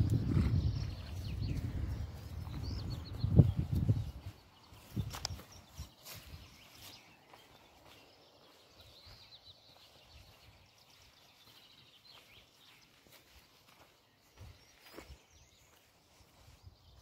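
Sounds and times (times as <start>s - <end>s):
faint songbird chirping: 0.0s - 17.0s.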